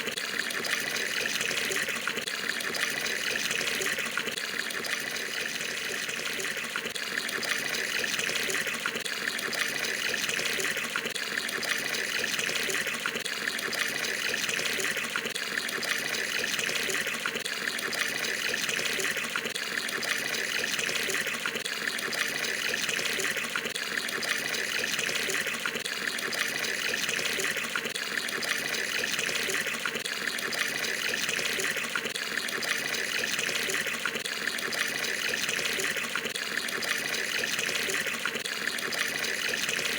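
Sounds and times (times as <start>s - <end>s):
tap water pouring into tub: 0.0s - 39.9s.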